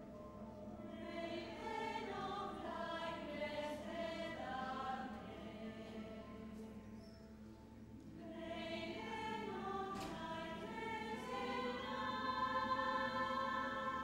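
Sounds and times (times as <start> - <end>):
mixed choir singing: 0.7 - 6.9, 8.2 - 14.0.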